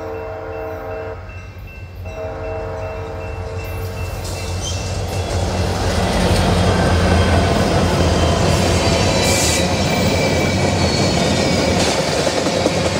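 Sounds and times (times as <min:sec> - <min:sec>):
locomotive engines droning: 0:00.0 - 0:12.9
train wheels on rails: 0:00.0 - 0:12.9.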